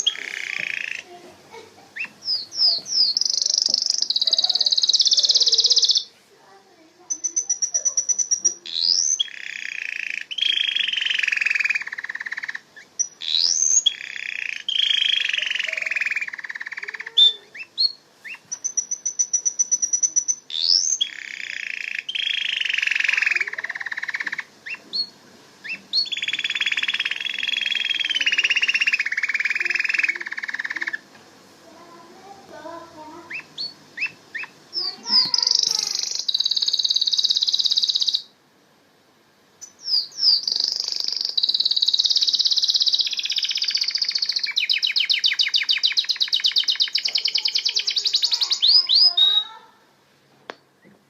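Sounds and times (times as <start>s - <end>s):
canary singing: 0.0s - 38.4s, 39.6s - 49.8s.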